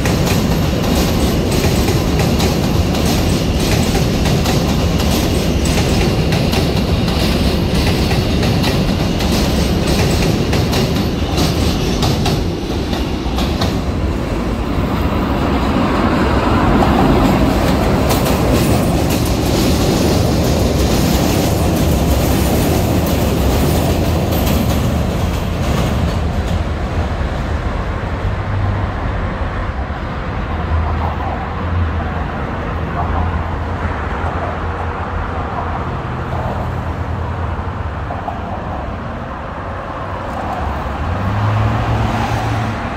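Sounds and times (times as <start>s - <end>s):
low rumble of traffic: 0.0s - 42.9s
subway train rolling on elevated tracks: 0.0s - 42.9s.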